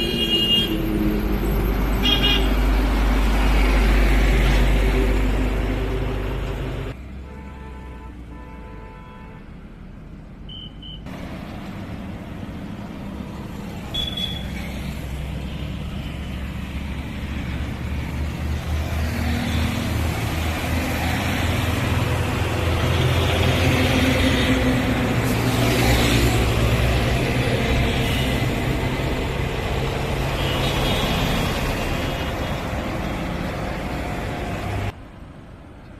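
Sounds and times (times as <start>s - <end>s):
trucks engine drone: 0.0s - 7.2s, 11.0s - 35.6s.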